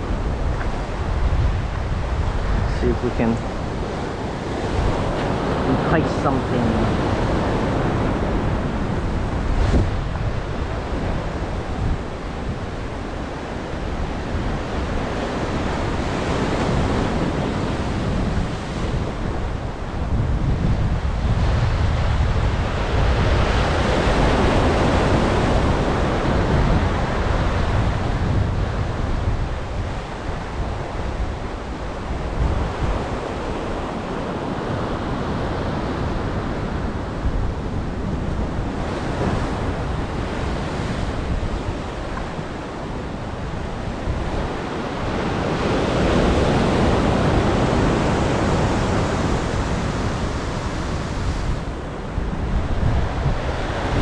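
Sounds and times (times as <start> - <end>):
surf washing against shore: 0.0 - 54.0
wind buffeting microphone: 0.0 - 54.0.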